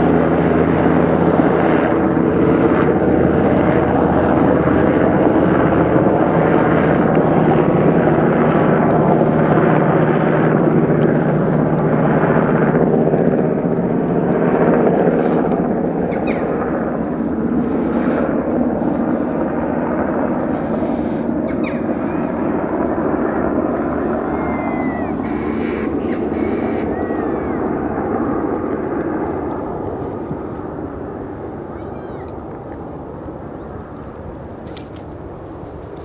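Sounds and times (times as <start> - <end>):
helicopter rotor and turbine noise: 0.0 - 36.0.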